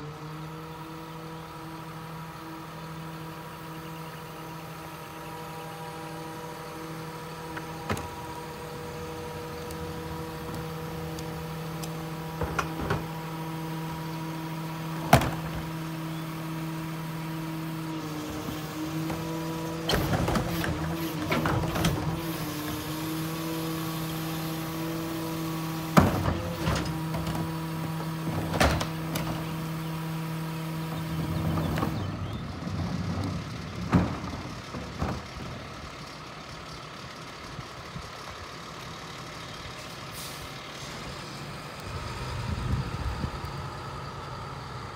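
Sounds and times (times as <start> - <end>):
garbage truck humming: 0.0 - 44.9.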